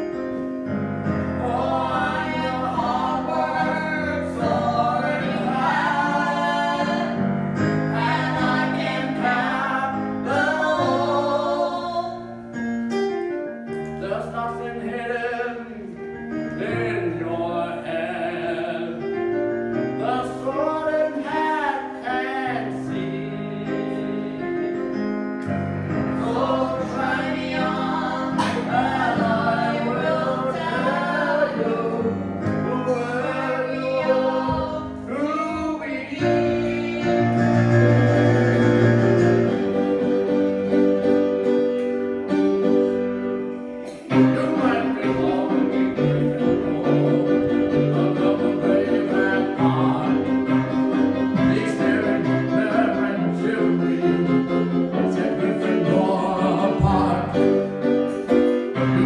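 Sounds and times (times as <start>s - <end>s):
piano music: 0.0s - 59.0s.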